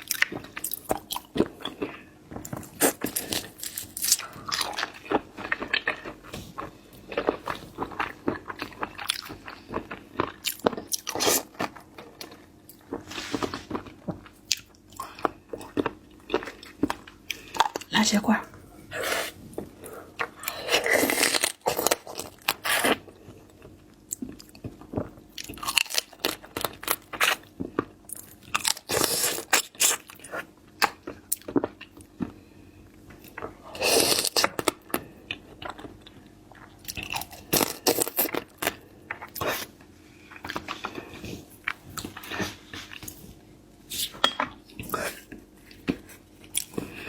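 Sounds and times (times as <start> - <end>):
crunching and chewing seafood: 0.0 - 47.0.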